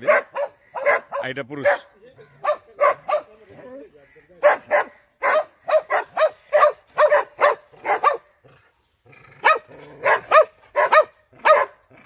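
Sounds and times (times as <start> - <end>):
dog barking: 0.0 - 3.4, 4.4 - 8.3, 9.4 - 11.8.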